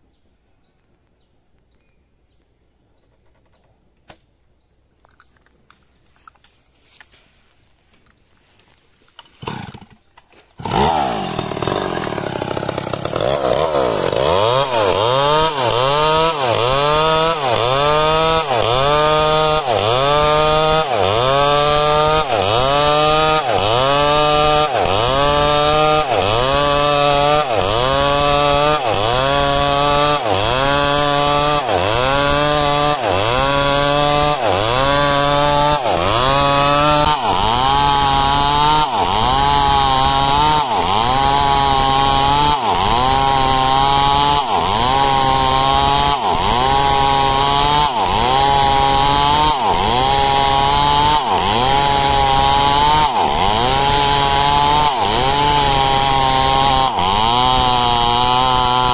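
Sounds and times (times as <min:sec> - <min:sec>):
chainsaw cutting timber: 0:05.4 - 0:58.9.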